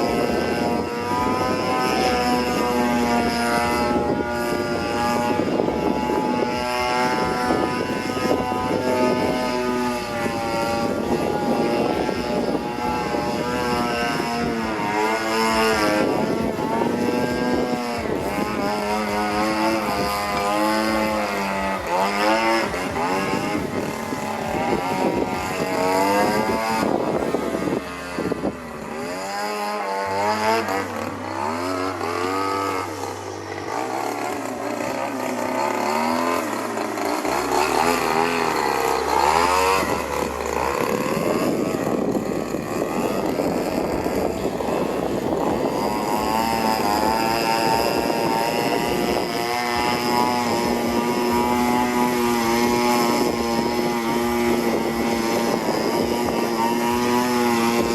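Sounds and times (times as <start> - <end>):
model airplane engine flying by: 0.0 - 57.9.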